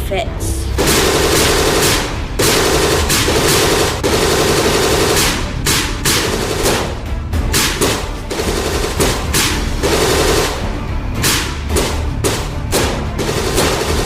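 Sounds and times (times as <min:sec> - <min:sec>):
background music: 0:00.0 - 0:14.0
machine-gun fire: 0:00.8 - 0:14.0.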